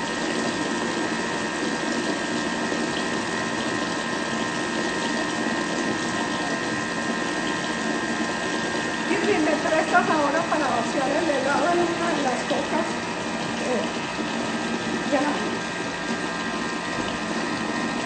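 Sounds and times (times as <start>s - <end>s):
kitchen appliance whirring: 0.0s - 18.0s.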